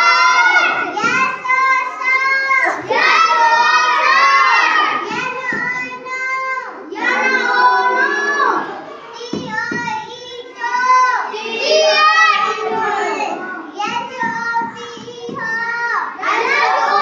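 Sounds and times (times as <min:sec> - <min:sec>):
young children singing: 0:00.0 - 0:17.0.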